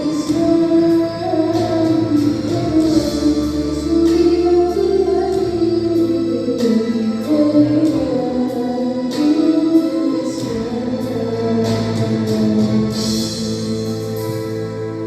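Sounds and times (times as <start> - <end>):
devotional singing: 0.0 - 14.2
instrumental backing: 0.0 - 15.0.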